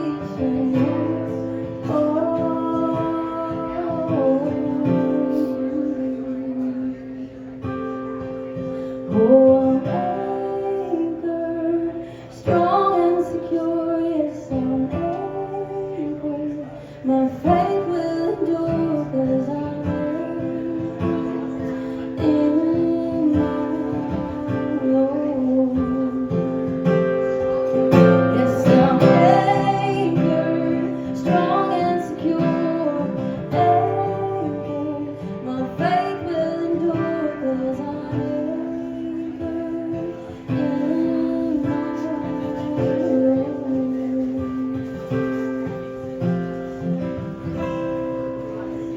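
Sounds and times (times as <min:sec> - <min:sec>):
acoustic guitar playing: 0:00.0 - 0:48.9.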